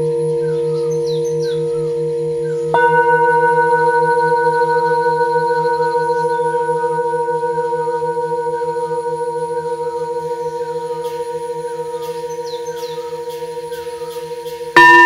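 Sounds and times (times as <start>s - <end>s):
singing bowls ringing: 0.0s - 15.0s
mallet striking singing bowl: 2.3s - 15.0s.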